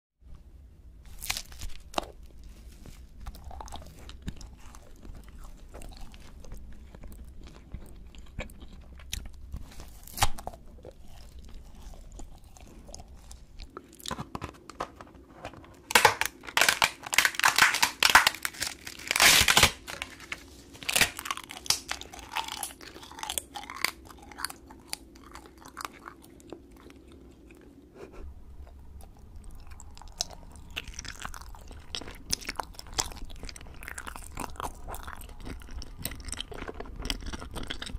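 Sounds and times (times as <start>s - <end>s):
crisp crunching and crinkling: 1.0s - 27.8s, 28.6s - 37.9s
soft biting and chewing: 1.1s - 14.6s, 20.1s - 37.9s.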